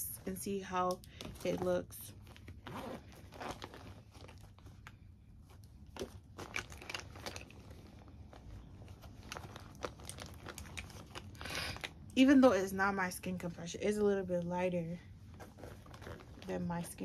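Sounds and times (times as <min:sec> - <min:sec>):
crinkling and rustling: 0:00.0 - 0:12.5, 0:15.1 - 0:17.0.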